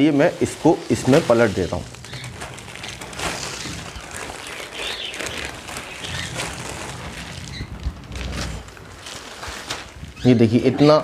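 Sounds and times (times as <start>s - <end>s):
plastic sheet crinkling: 0.0s - 11.0s
bird seed pattering: 0.2s - 10.6s.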